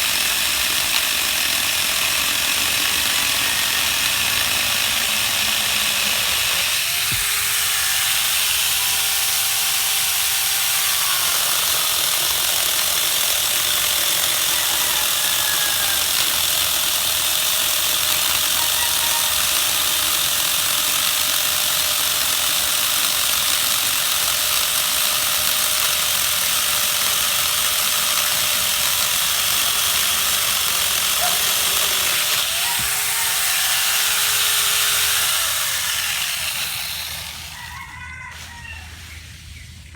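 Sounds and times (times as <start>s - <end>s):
chainsaw cutting wood: 0.0s - 38.6s.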